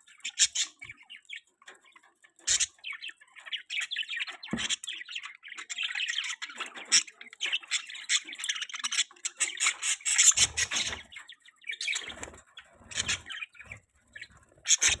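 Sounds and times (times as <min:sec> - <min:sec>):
budgerigars chattering and chirping: 0:00.0 - 0:15.0.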